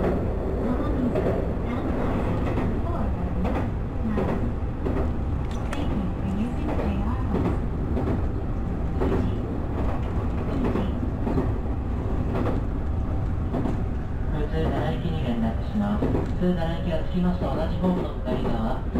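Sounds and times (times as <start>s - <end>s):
train rumbling on track: 0.0s - 18.9s.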